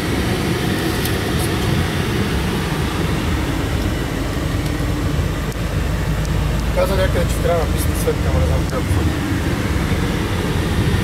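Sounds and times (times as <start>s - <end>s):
diesel engine rumble: 0.0s - 11.0s
road noise: 0.0s - 11.0s.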